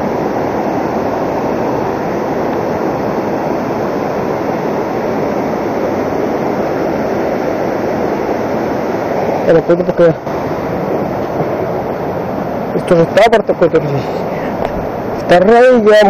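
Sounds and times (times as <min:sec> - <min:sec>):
river rapids roaring: 0:00.0 - 0:16.0.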